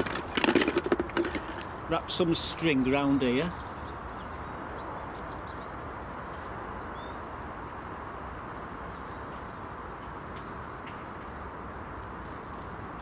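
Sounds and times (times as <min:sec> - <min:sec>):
outdoor background hiss and rumble: 0:00.0 - 0:13.0.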